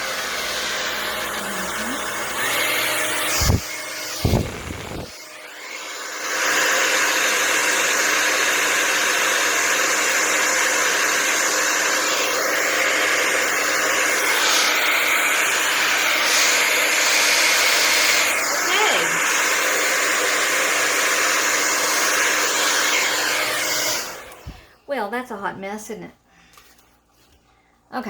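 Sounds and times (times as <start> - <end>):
blow dryer running: 0.0 - 24.8.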